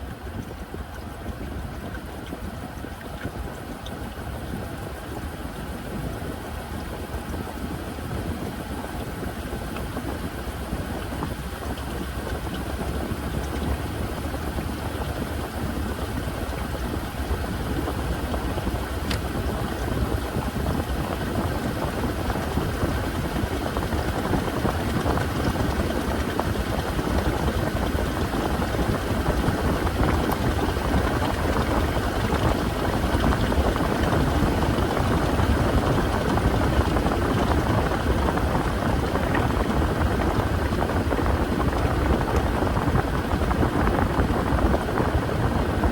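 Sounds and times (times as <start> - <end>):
washing machine churning: 0.0 - 45.9.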